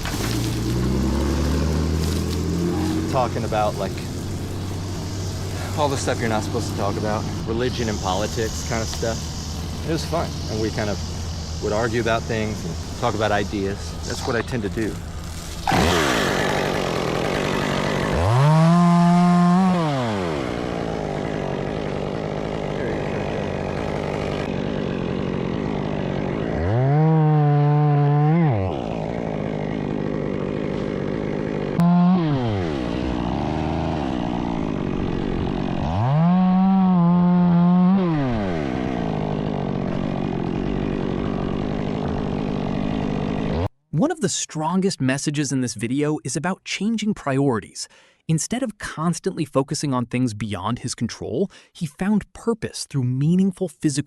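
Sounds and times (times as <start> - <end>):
chainsaw engine revving: 0.0 - 43.7.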